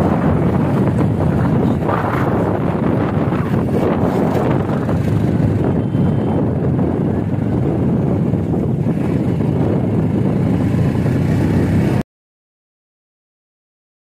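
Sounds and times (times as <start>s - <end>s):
motorcycle engine drone: 0.0s - 12.0s
wind rushing over microphone: 0.0s - 12.0s.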